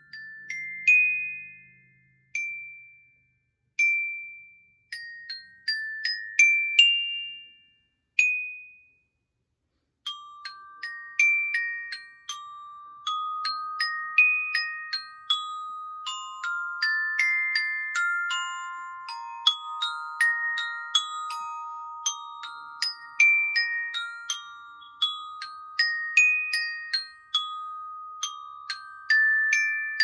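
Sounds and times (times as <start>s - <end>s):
glockenspiel notes: 0.0s - 9.3s, 10.0s - 30.0s.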